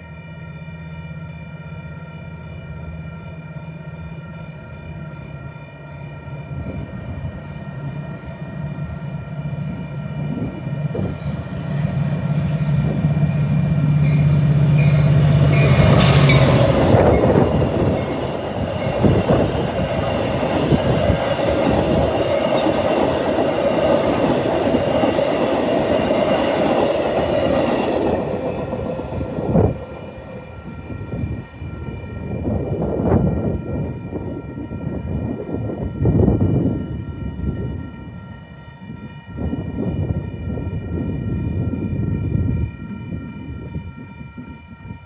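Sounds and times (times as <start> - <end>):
locomotive engine drone: 0.0 - 45.0.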